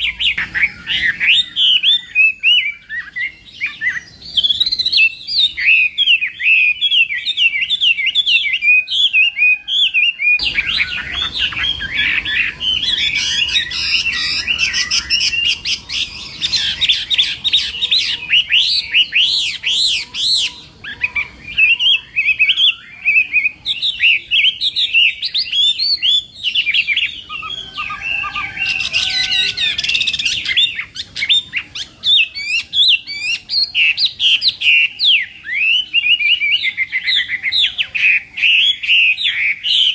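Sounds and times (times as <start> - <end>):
thrush singing whistled notes: 0.0 - 39.9.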